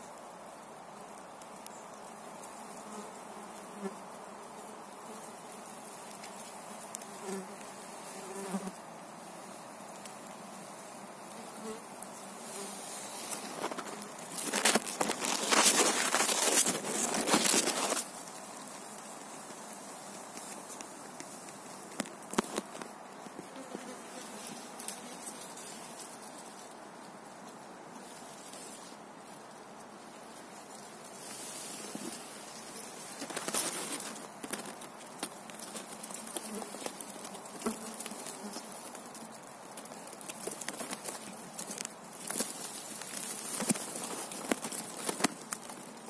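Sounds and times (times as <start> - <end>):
leaves and dry grass rustling: 0.0 - 46.0.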